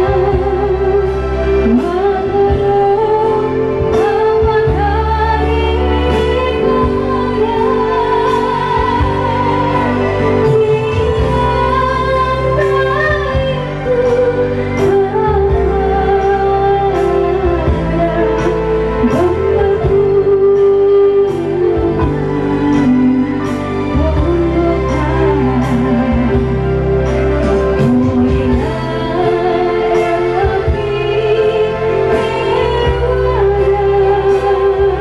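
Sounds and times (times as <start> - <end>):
amplified backing music: 0.0 - 35.0
woman singing into microphone: 0.0 - 35.0.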